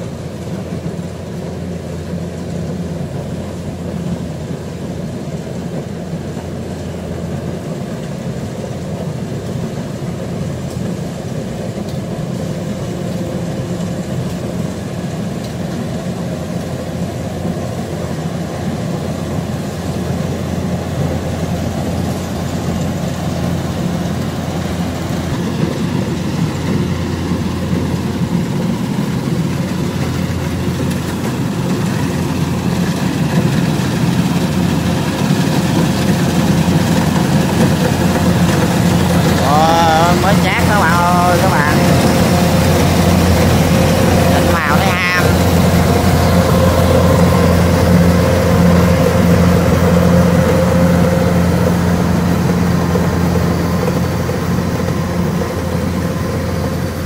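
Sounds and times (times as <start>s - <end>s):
combine harvester engine running: 0.0s - 57.0s.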